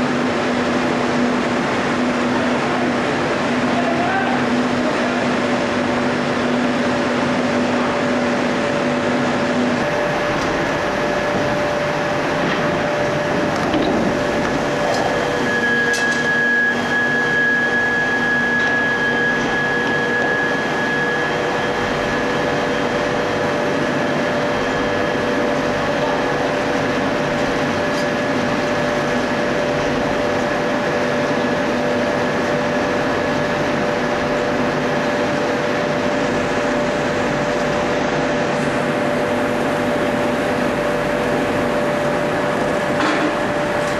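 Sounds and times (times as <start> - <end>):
high whine: 0.0 - 43.9
rolling mill mechanical din: 0.0 - 43.9.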